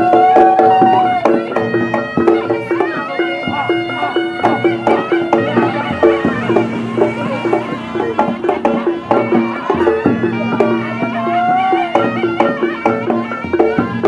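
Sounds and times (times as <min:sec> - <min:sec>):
gong-chime notes: 0:00.0 - 0:12.4
reed shawm melody: 0:00.0 - 0:14.0
sharp drum strokes: 0:00.0 - 0:14.0.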